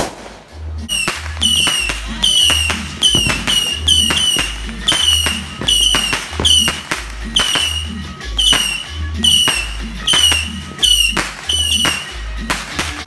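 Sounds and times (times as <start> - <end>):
sharp percussive hits: 0.0 - 13.0
repeating bass line: 0.9 - 12.7.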